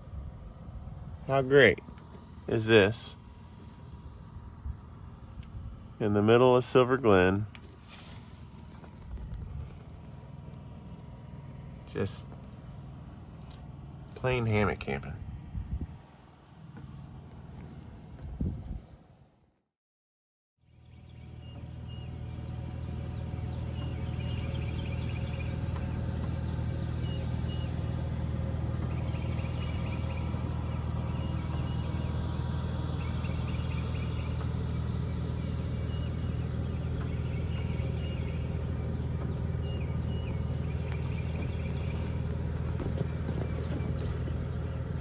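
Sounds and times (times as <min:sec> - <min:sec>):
insect chirping calls: 0:00.0 - 0:18.8, 0:20.6 - 0:45.0
insects droning: 0:00.0 - 0:19.4, 0:20.6 - 0:45.0
steady low hum: 0:00.0 - 0:19.4, 0:20.7 - 0:45.0.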